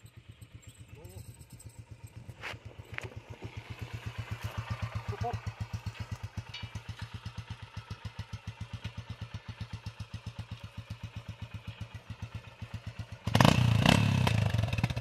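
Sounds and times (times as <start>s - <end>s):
motorcycle engine idling: 0.0s - 15.0s
motorcycle engine revving: 0.0s - 15.0s.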